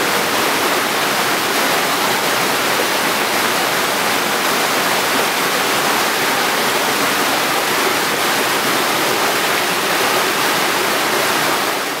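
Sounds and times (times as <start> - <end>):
creek water rushing over boulders: 0.0 - 12.0.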